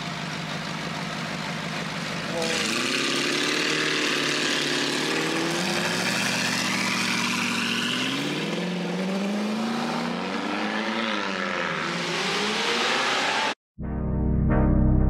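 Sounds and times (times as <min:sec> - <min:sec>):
car engine pulling away: 0:00.1 - 0:13.6.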